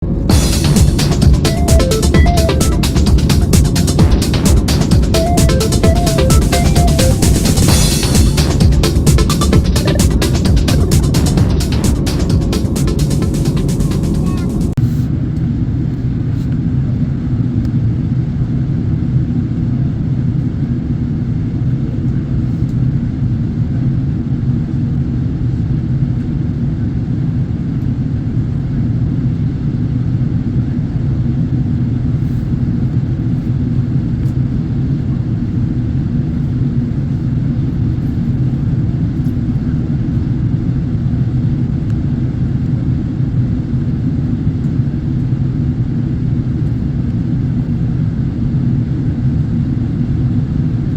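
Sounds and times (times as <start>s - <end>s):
airliner cabin engine rumble: 0.0s - 50.9s.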